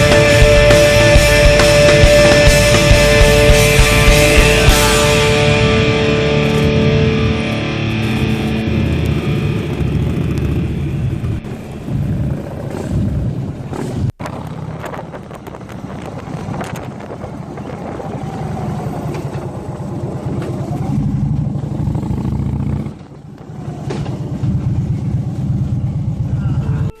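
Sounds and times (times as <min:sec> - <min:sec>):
motorcycle engines rumbling: 0:00.0 - 0:27.0.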